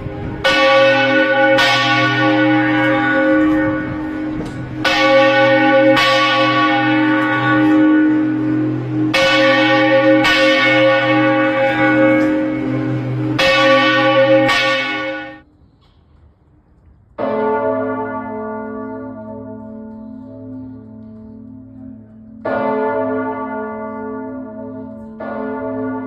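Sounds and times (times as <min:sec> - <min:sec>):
church bells ringing: 0:00.0 - 0:15.5, 0:17.2 - 0:26.0.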